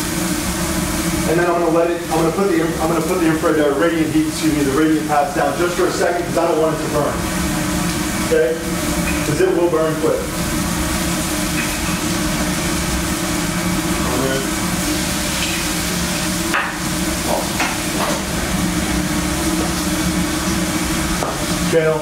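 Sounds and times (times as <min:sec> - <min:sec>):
salmon sizzling on a griddle: 0:00.0 - 0:22.0
steady low hum: 0:00.0 - 0:22.0.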